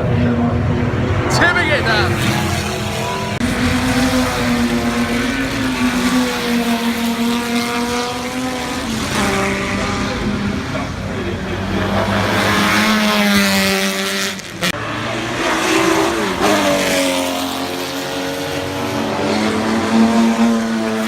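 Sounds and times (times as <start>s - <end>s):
racing cars passing at speed: 0.0s - 21.0s.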